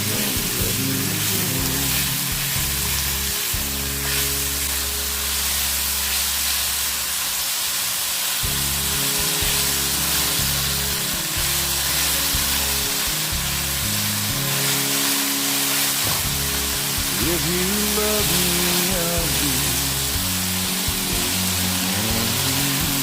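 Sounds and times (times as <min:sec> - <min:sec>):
background music: 0:00.0 - 0:23.0
chicken and mushrooms sizzling in pan: 0:00.0 - 0:23.0.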